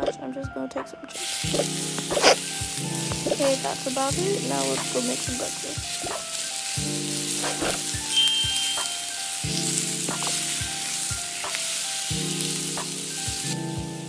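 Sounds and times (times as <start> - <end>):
food sizzling in a frying pan: 1.2 - 13.6.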